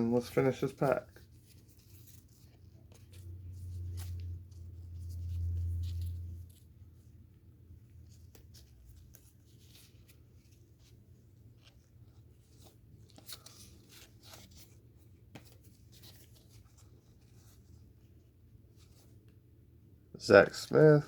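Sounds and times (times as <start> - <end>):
trading cards rustling and clicking: 0.2 - 7.3, 7.9 - 17.9.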